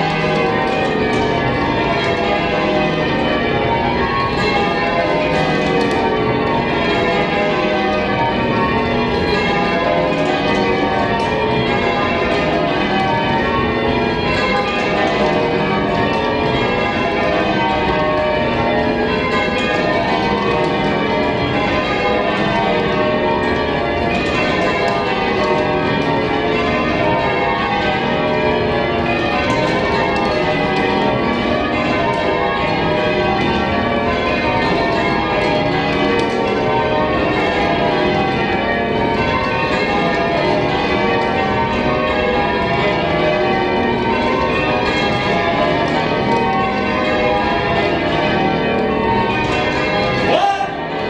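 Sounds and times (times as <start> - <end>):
church bells change-ringing: 0.0 - 51.0.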